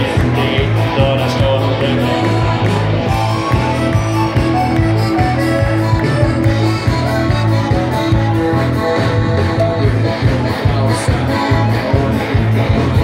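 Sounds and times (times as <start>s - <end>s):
live band playing upbeat music: 0.0s - 13.0s.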